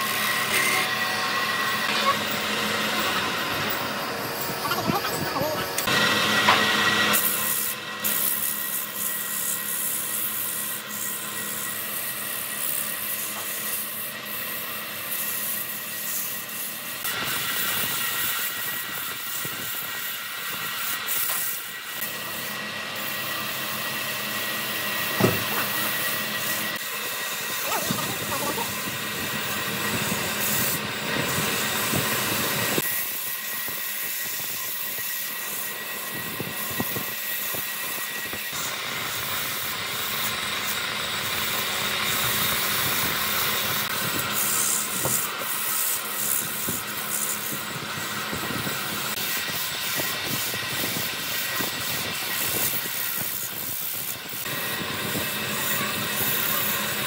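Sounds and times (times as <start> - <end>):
wood lathe hissing and whining: 0.0 - 57.0.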